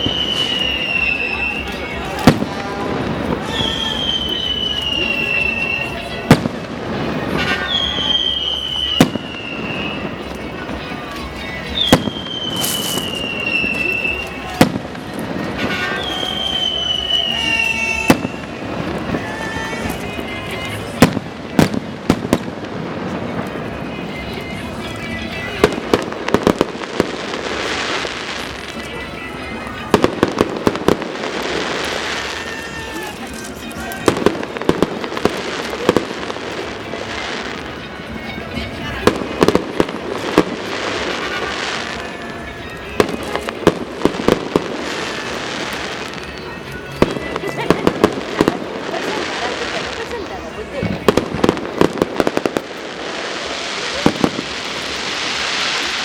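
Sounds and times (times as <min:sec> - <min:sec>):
firework bangs: 0:00.0 - 0:56.0
firework whistling shell: 0:00.0 - 0:56.0.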